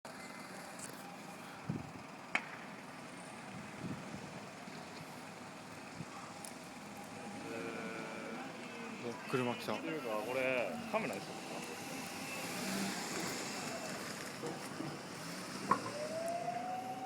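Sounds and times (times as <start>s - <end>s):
outdoor background noise: 0.1s - 17.0s
vehicle engine: 0.1s - 17.0s.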